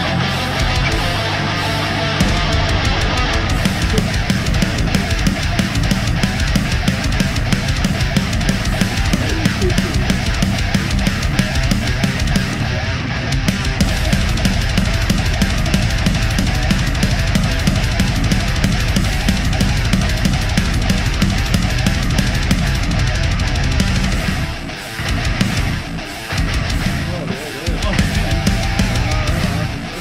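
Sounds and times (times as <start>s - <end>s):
electric guitar: 0.0s - 30.0s
drum beat: 2.2s - 12.6s, 13.6s - 30.0s.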